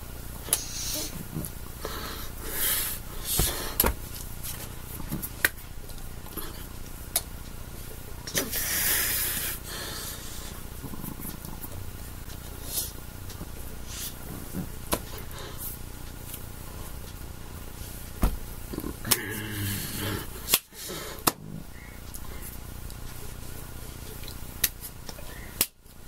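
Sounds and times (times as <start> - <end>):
room hum: 0.0 - 26.0.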